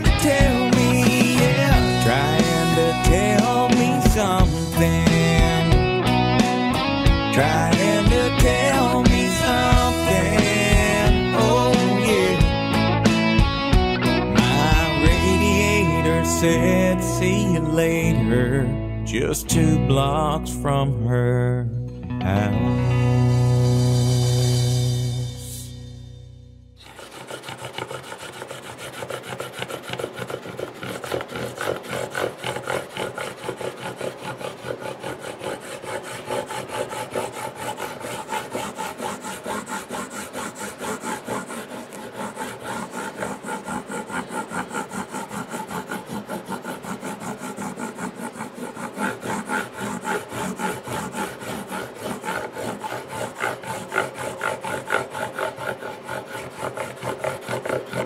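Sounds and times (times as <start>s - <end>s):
sanding wood by hand: 0.0s - 13.4s, 14.0s - 17.6s, 26.8s - 58.0s.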